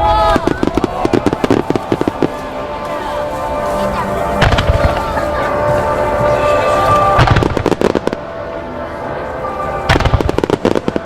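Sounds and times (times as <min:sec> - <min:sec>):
firework bangs and crackles: 0:00.0 - 0:08.5, 0:09.8 - 0:11.0
music with sustained notes: 0:00.0 - 0:11.0.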